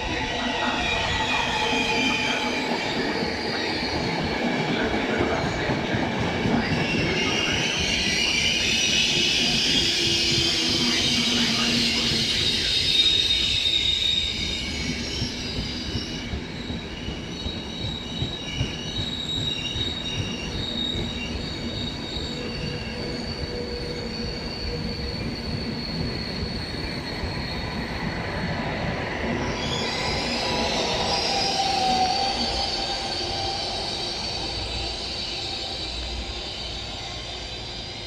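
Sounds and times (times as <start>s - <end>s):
train wheels and brakes squealing: 0.0s - 38.0s.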